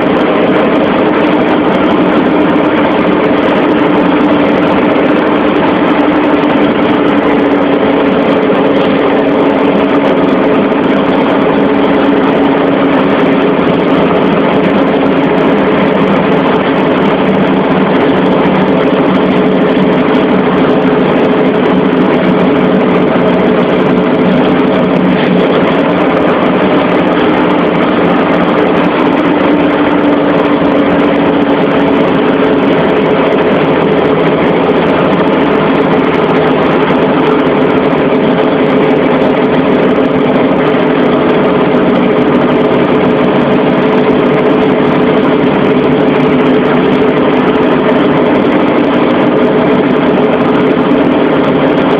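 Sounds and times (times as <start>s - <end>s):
heavy vehicle engine droning: 0.0s - 51.9s.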